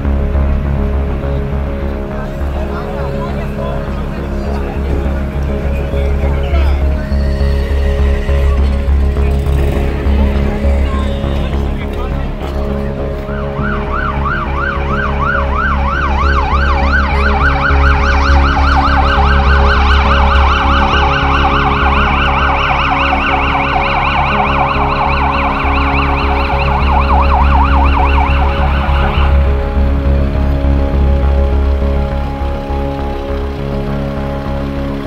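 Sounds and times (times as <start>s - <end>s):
low hum and bass: 0.0s - 35.0s
siren yelping: 2.4s - 33.3s.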